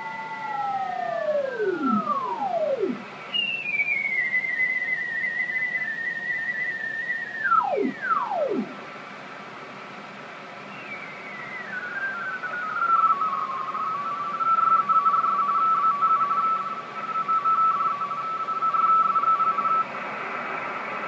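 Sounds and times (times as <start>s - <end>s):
radio tone sliding in pitch: 0.0s - 8.8s, 10.7s - 21.0s
two-tone data warble: 0.0s - 8.8s, 11.6s - 21.0s
radio band hiss: 0.0s - 21.0s.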